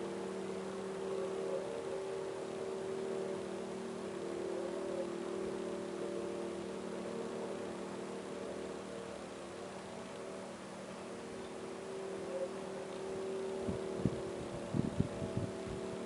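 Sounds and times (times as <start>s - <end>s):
background hiss: 0.0s - 16.0s
distant droning hum: 0.0s - 16.0s.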